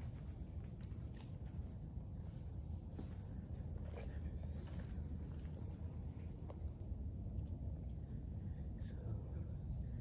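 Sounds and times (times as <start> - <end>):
insects buzzing: 0.0 - 10.0.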